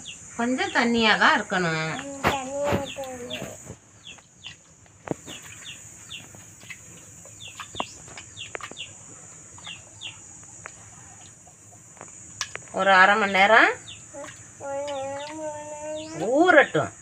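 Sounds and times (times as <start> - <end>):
birds chirping: 0.0 - 17.0
high insect buzz: 1.6 - 4.2, 5.0 - 16.4.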